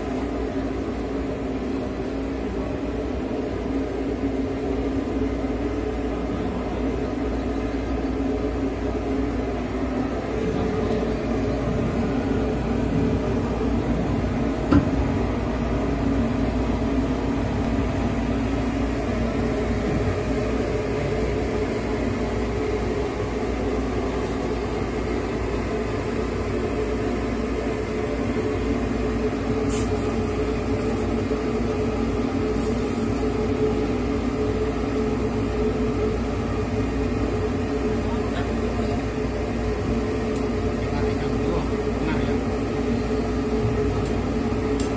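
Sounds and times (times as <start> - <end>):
machinery humming: 0.0 - 44.9.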